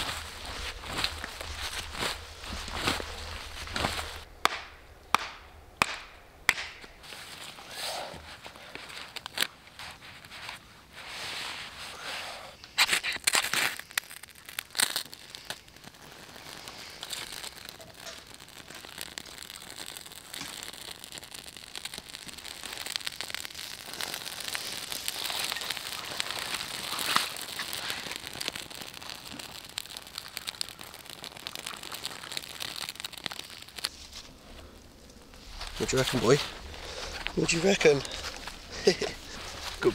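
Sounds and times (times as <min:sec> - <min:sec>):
kindling fire crackling: 0:00.0 - 0:39.9.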